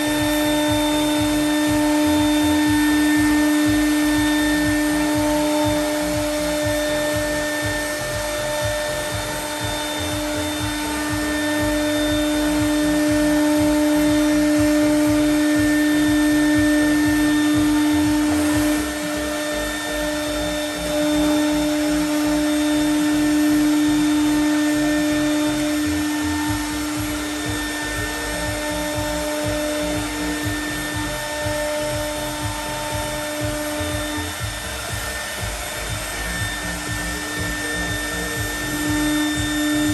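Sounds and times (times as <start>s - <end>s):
cnc router spindle whine: 0.0s - 39.9s
hiss of cutting: 0.0s - 39.9s.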